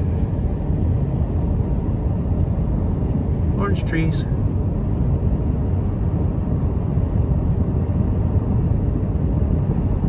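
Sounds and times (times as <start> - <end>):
moving car road and wind noise: 0.0 - 10.0.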